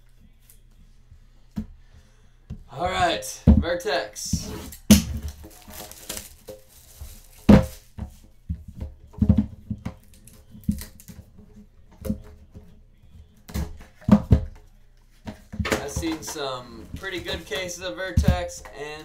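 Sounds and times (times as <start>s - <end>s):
quiet background music: 0.0s - 19.0s.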